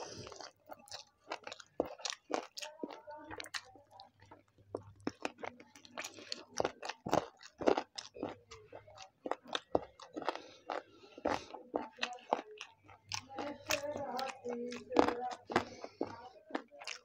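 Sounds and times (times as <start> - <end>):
chewing smacks and clicks: 0.2 - 17.0.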